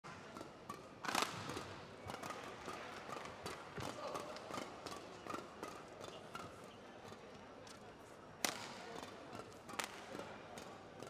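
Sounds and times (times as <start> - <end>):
rackets striking shuttlecock: 0.1 - 11.0.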